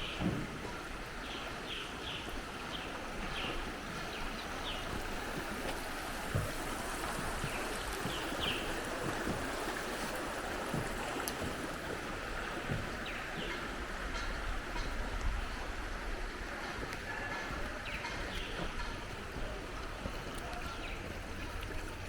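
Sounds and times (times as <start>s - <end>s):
soft low thumps: 3.0s - 22.0s.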